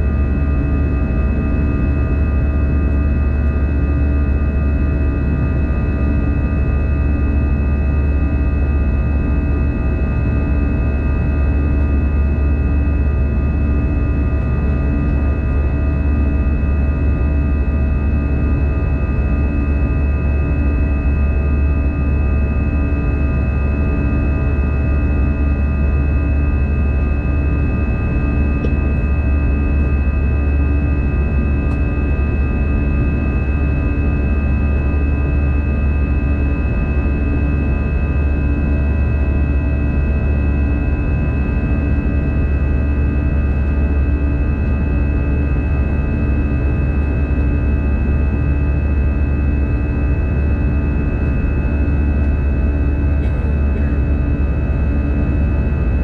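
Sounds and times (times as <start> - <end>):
engine and airflow rumble: 0.0 - 56.0
pulsing low hum: 0.0 - 56.0.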